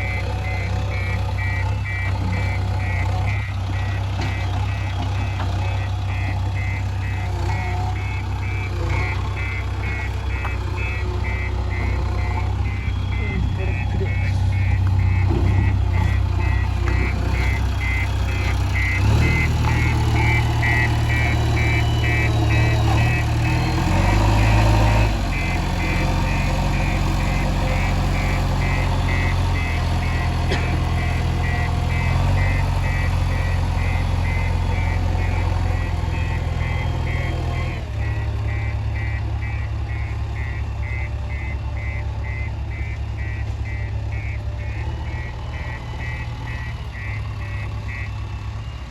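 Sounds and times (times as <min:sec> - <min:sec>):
diesel engine working under load: 0:00.0 - 0:48.9
reversing alarm beeping: 0:00.0 - 0:48.9.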